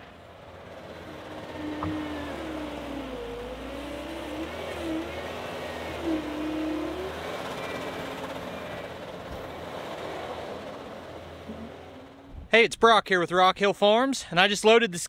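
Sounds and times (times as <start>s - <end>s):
diesel engine revving: 0.0s - 12.5s.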